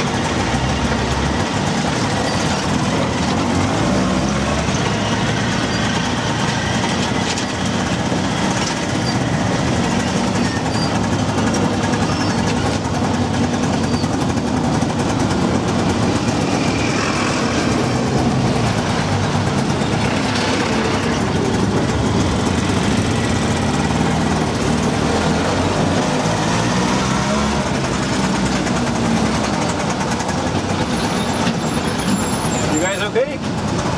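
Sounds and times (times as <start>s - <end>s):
road noise: 0.0s - 33.9s
small engine running: 0.0s - 33.9s
trucks passing: 0.0s - 33.9s.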